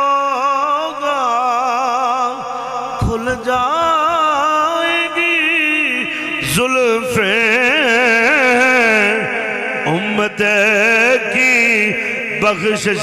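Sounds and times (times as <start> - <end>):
man chanting with vibrato: 0.0 - 13.0.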